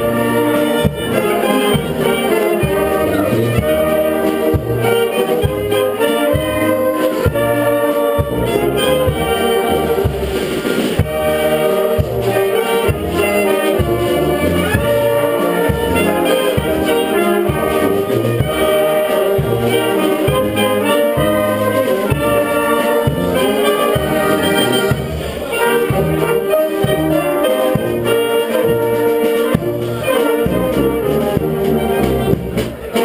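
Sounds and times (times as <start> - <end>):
brass band playing dance tune: 0.0 - 33.0.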